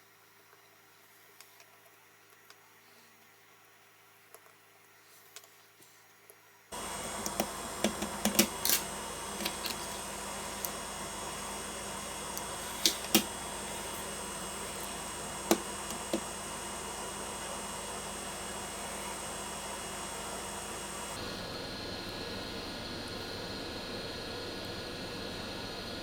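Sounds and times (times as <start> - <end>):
electrical hum and hiss: 0.0 - 26.0.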